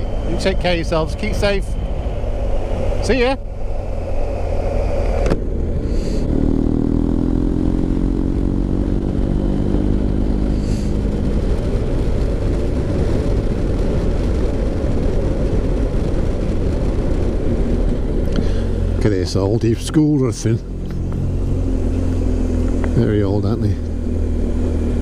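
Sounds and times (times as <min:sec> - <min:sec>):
low wind rumble: 0:00.0 - 0:25.0
motorcycle engine running: 0:00.0 - 0:25.0.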